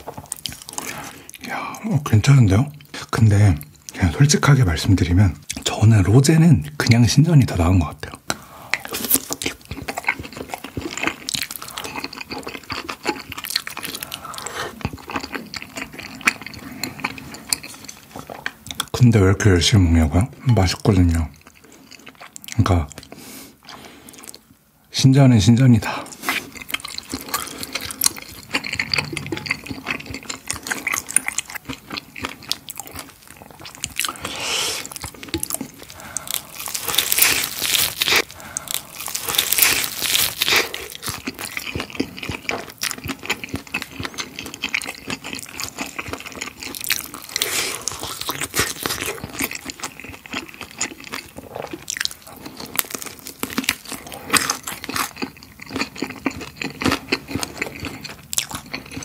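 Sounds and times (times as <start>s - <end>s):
chewing and crunching fried chicken: 0.0s - 24.6s, 25.6s - 59.0s.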